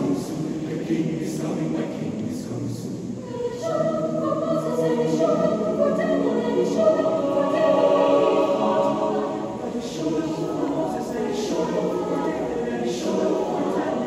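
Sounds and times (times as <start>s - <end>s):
mixed choir singing held chords: 0.0s - 14.0s.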